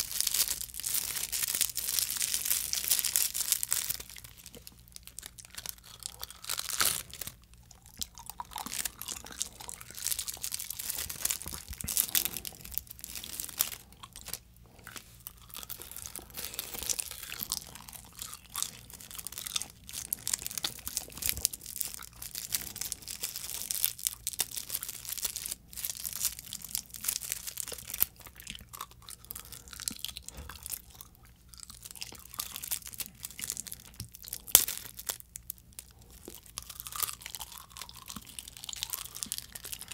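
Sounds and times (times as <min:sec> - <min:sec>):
starch film crinkling and tearing: 0:00.0 - 0:31.0, 0:31.6 - 0:39.9
chewing crisp crackles: 0:00.0 - 0:39.9.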